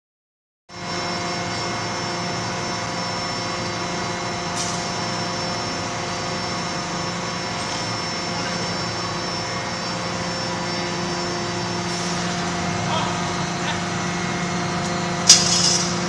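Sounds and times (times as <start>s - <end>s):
machinery droning hum: 0.7s - 16.0s.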